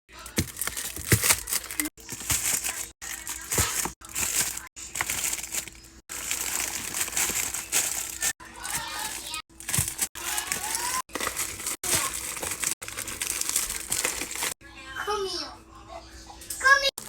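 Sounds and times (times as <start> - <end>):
plastic packaging rustling: 0.2 - 14.6.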